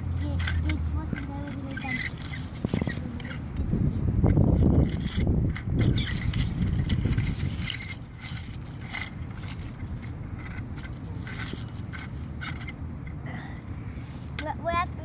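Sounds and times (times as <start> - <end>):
steady low rumble: 0.0 - 15.0
toy bucket scraping dirt and rocks: 0.1 - 12.8.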